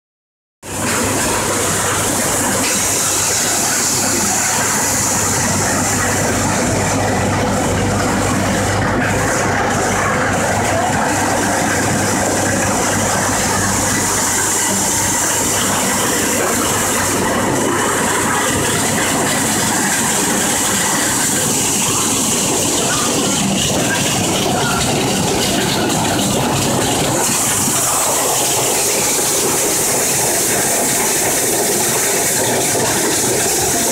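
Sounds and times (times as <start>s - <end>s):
machine hum and hiss: 0.7s - 33.9s
garlic rattling on conveyor: 0.8s - 33.9s.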